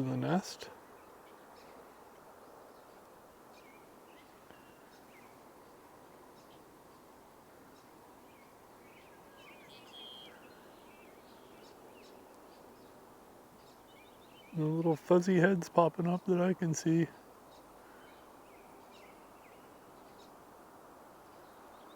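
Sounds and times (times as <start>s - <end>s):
small birds chirping: 0.0s - 20.4s
steady background hiss: 0.0s - 21.9s.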